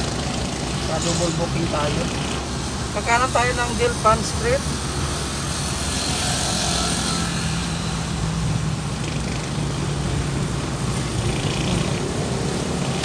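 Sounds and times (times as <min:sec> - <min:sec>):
car engine hum: 0:00.0 - 0:13.0
road and tyre noise: 0:00.0 - 0:13.0.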